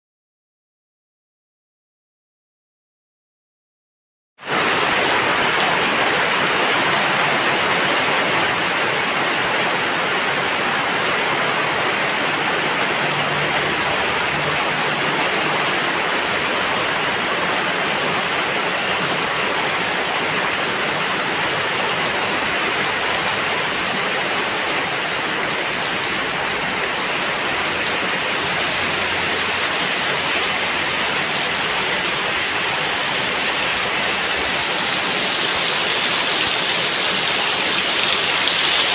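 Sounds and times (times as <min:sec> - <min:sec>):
heavy rain on gravel and concrete: 0:04.4 - 0:38.9
water splashing into puddles: 0:04.5 - 0:38.9.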